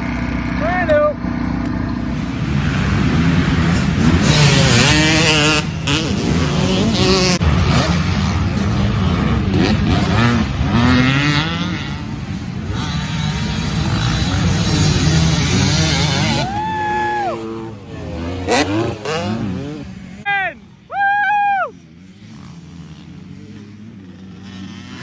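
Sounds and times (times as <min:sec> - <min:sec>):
motocross bikes revving past: 0:00.0 - 0:25.0.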